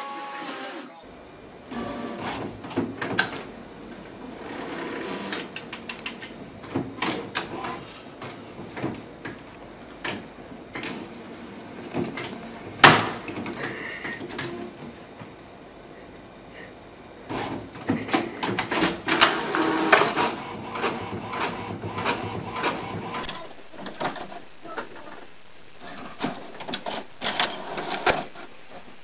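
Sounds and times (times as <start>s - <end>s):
printer feeding paper: 0.0s - 1.0s, 1.7s - 9.4s, 10.0s - 15.0s, 17.3s - 24.8s, 25.8s - 29.0s.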